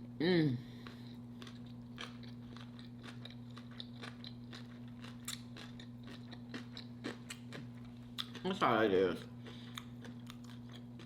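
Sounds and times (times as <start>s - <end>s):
low electrical hum: 0.0s - 11.0s
person chewing food: 0.7s - 11.0s.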